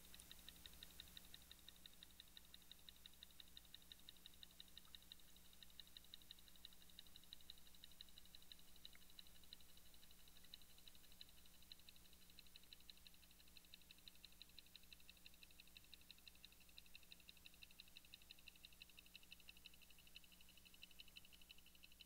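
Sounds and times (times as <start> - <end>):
faint low hum: 0.0 - 22.0
rapid high-pitched ticking: 0.0 - 22.0.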